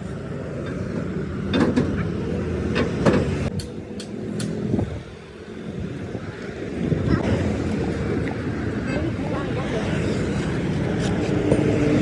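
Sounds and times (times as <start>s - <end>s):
low motor drone: 0.0s - 12.0s.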